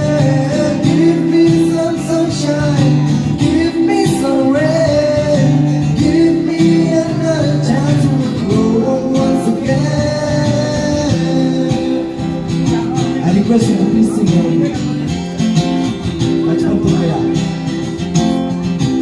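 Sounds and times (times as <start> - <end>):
man singing: 0.0 - 15.3
acoustic guitar: 0.0 - 19.0.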